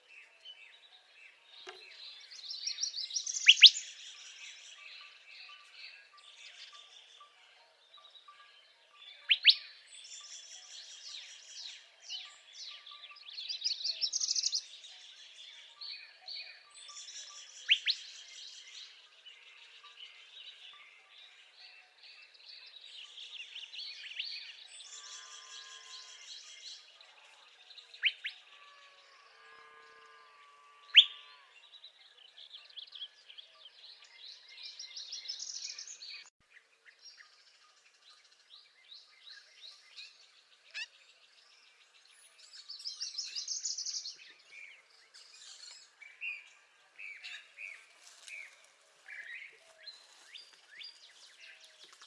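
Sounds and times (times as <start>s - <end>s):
bird singing a buzzy trill: 0.0s - 36.3s, 36.9s - 48.6s
other songbirds: 0.0s - 52.0s.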